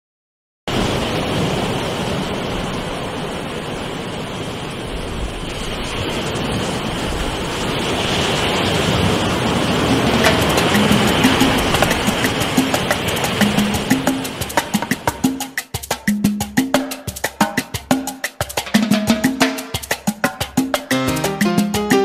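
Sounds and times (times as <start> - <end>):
ocean waves breaking: 0.7 - 22.0.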